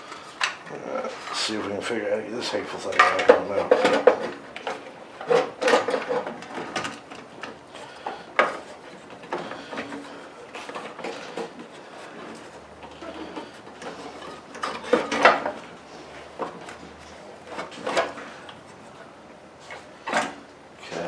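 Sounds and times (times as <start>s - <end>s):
metal parts clunking and scraping: 2.5s - 19.0s, 19.6s - 21.0s.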